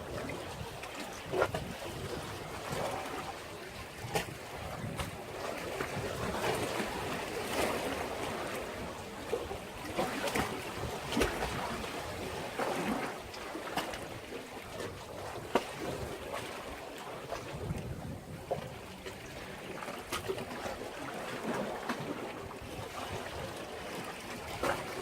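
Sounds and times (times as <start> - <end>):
wind rumbling on microphone: 0.0 - 21.1
sea waves washing against breakwater: 0.0 - 25.0
water splashes: 0.0 - 25.0.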